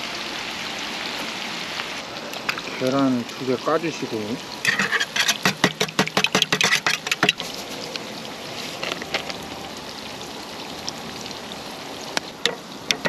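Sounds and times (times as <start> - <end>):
pork sizzling on griddle: 0.0 - 13.0.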